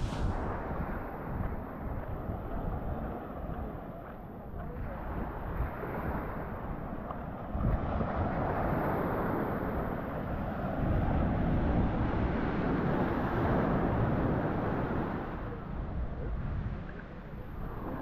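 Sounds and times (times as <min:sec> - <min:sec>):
surf washing up a beach: 0:00.0 - 0:18.0
wind buffeting the microphone: 0:00.0 - 0:18.0.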